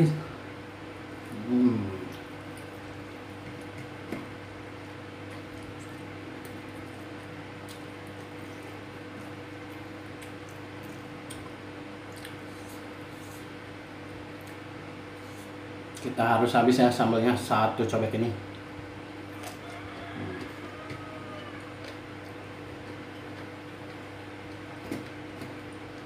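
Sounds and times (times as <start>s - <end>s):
steady low hum: 0.0s - 26.0s
man chewing food: 1.0s - 16.0s, 18.5s - 26.0s.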